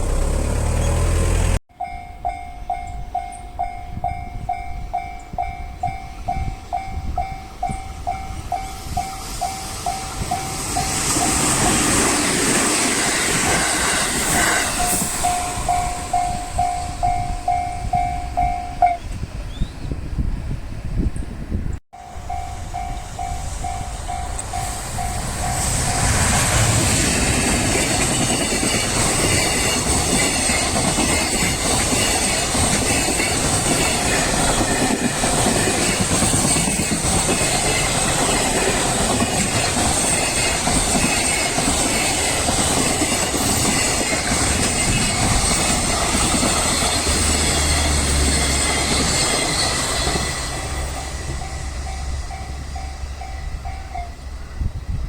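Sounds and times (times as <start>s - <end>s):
level crossing warning bell: 1.7s - 11.9s, 14.7s - 19.1s, 22.0s - 26.3s, 27.7s - 54.7s
freight train wheels clattering: 6.3s - 18.6s, 22.2s - 54.2s.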